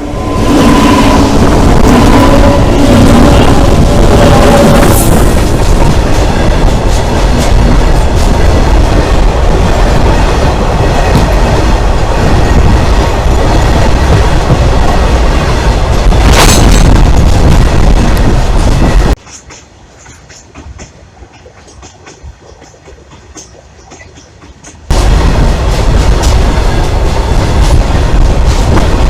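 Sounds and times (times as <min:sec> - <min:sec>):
freight train rumble: 0:00.0 - 0:29.0
train wheels clattering on rails: 0:00.0 - 0:29.0.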